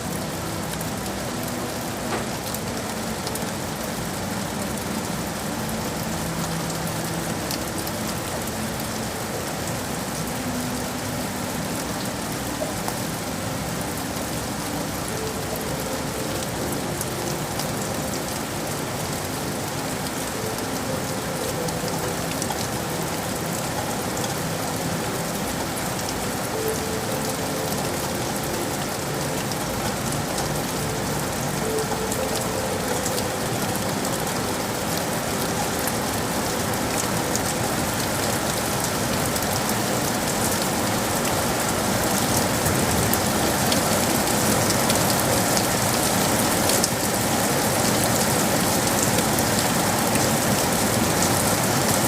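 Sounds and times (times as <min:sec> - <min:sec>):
rain pattering on hard surfaces: 0:00.0 - 0:52.0.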